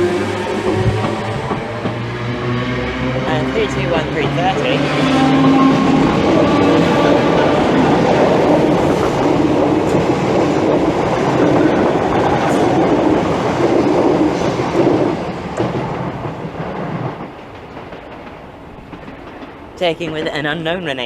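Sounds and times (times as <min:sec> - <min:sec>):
electric train passing on rails: 0:00.0 - 0:21.0.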